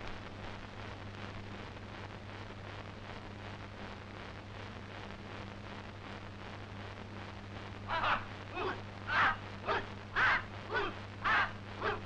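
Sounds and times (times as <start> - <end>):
faint low hum: 0.0 - 12.0
soundtrack hiss: 0.0 - 12.0.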